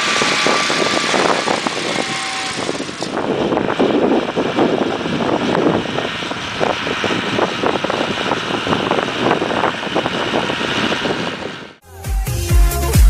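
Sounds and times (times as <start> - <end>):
tractor working under load: 0.0 - 11.8
wind on microphone: 0.0 - 11.8.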